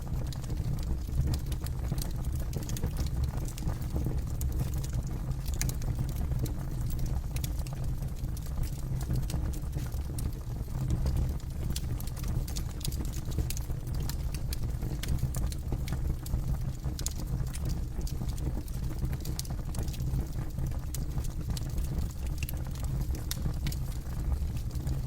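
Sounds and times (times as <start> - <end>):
campfire crackling and popping: 0.1 - 25.0.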